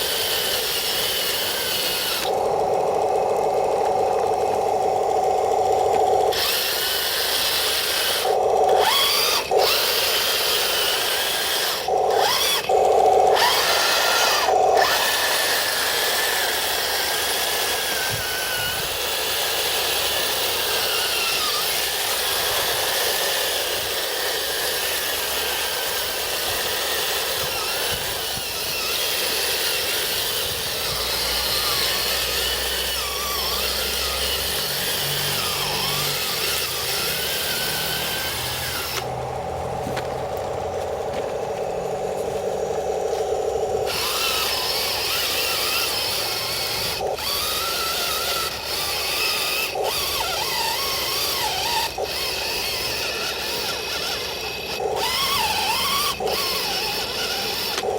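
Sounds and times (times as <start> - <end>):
electric motors whining: 0.0 - 57.9
mechanical grinding of tracks: 0.0 - 57.9.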